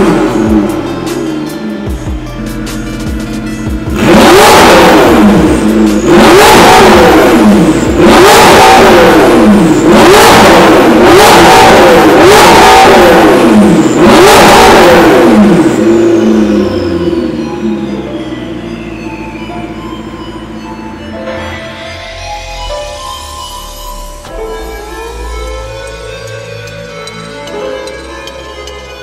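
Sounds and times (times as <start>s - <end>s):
car engine idling: 0.0s - 21.2s, 21.9s - 29.0s
car engine revving: 0.0s - 21.2s, 21.8s - 29.0s.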